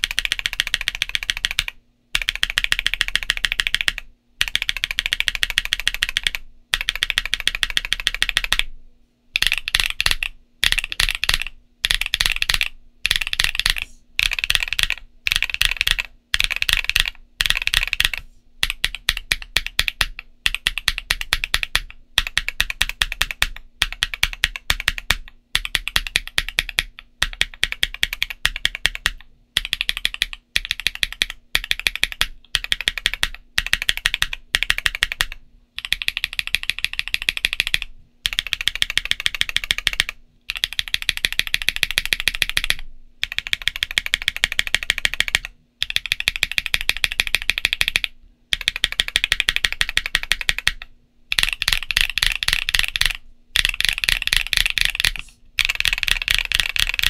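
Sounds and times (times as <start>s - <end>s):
keyboard typing clacks: 0.0s - 8.7s, 9.4s - 57.0s.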